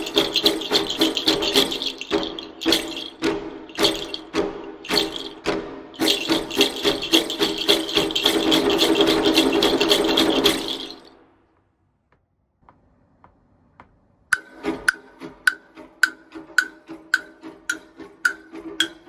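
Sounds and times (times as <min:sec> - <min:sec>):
wood block knocks: 0:00.0 - 0:11.1, 0:13.8 - 0:19.0
percussion rattle shaking: 0:00.0 - 0:11.3, 0:14.4 - 0:19.0.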